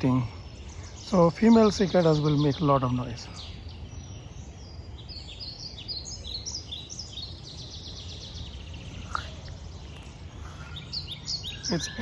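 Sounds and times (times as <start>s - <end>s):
wild birds chirping and singing: 0.0s - 12.0s.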